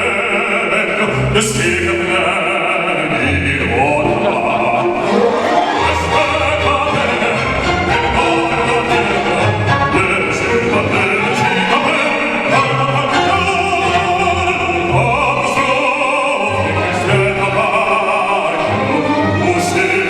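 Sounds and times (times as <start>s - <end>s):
operatic singing with vibrato: 0.0s - 20.0s
instrumental accompaniment: 3.3s - 20.0s.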